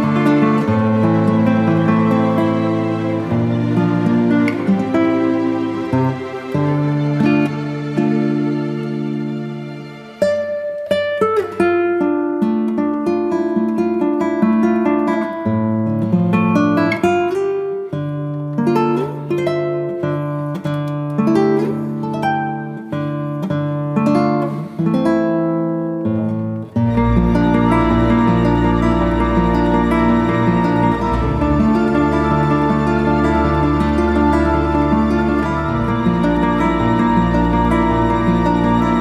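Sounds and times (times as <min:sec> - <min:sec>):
acoustic guitar picking: 0:00.0 - 0:39.0.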